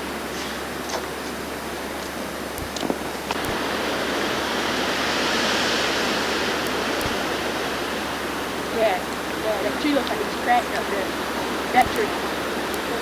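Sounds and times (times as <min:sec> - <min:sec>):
wind blowing through snowstorm: 0:00.0 - 0:13.0.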